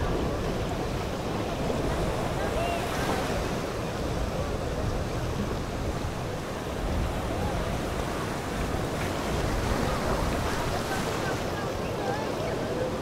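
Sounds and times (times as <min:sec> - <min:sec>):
choppy sea water lapping: 0:00.0 - 0:13.0
wind on microphone: 0:00.0 - 0:13.0.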